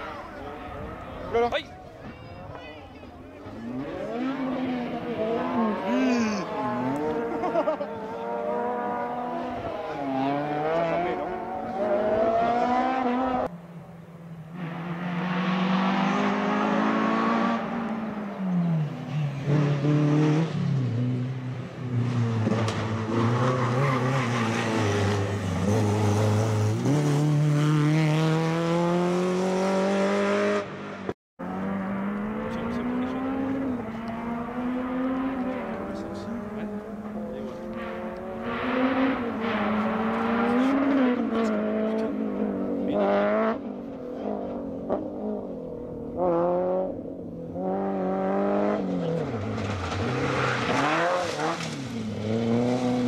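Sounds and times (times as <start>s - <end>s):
rally car engines revving: 3.2s - 13.5s, 14.4s - 53.0s.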